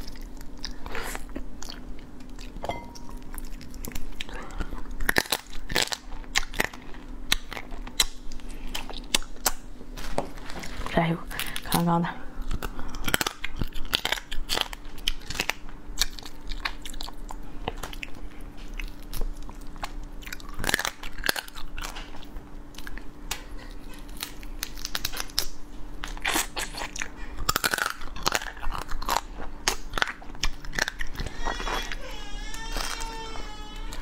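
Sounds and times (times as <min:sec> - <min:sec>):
crab shell crunching: 0:00.0 - 0:10.1, 0:11.3 - 0:34.0
faint steady hum: 0:00.0 - 0:34.0.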